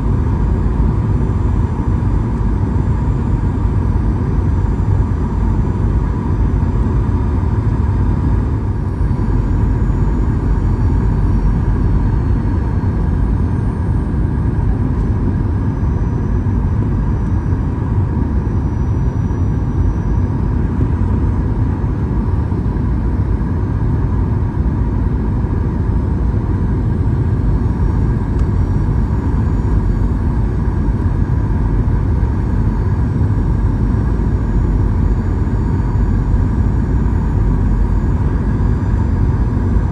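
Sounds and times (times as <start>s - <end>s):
airplane cabin rumble: 0.0s - 39.9s
faint steady whine: 0.0s - 39.9s.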